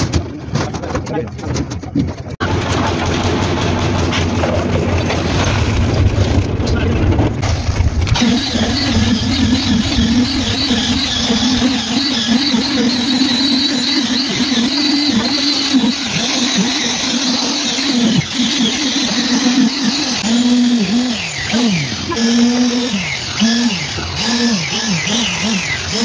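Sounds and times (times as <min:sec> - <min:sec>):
concrete vibrator motor whining: 0:02.4 - 0:26.0.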